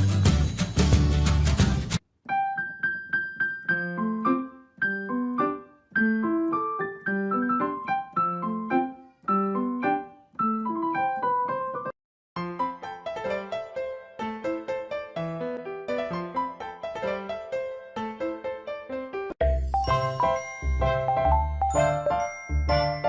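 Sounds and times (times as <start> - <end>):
solo piano melody: 2.2 - 23.0.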